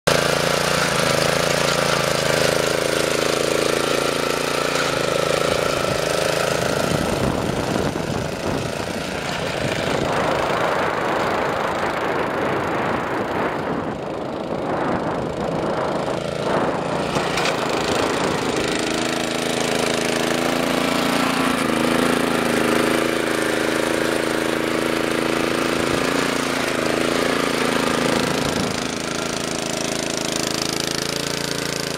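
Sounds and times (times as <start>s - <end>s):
chain cutting through soil: 0.1s - 12.2s, 15.4s - 31.9s
small petrol engine running: 0.1s - 31.9s.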